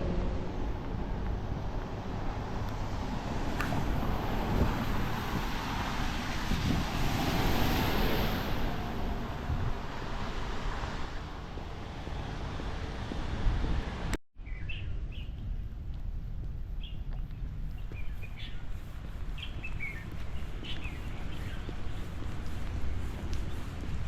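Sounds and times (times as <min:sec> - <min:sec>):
outdoor noise: 0:00.0 - 0:24.0
wind rumbling on microphone: 0:00.0 - 0:24.0.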